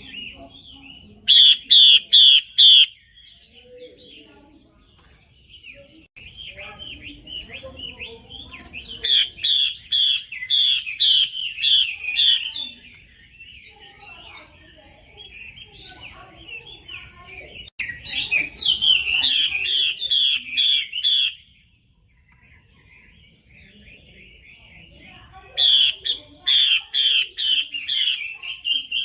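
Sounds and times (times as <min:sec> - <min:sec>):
bird singing loud repeated notes: 0:00.0 - 0:29.0
soft bird twittering: 0:00.0 - 0:29.0.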